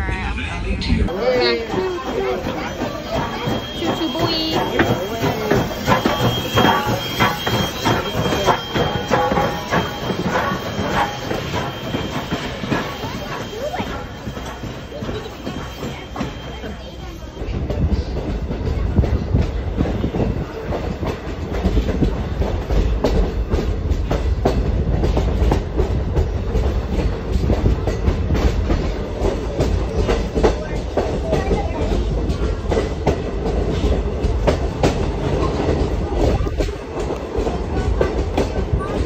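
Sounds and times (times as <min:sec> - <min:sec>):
train rumbling on track: 0:00.0 - 0:39.0
wheels clacking on rails: 0:00.9 - 0:39.0.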